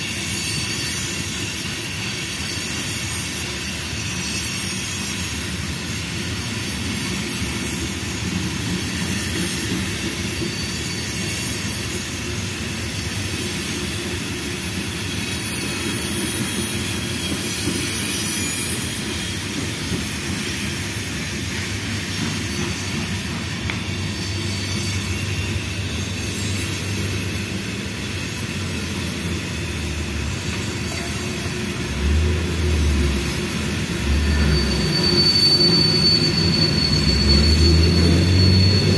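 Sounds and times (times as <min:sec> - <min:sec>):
high wheel squeal: 0:00.0 - 0:38.9
train wheels rumbling on rail: 0:00.0 - 0:38.9.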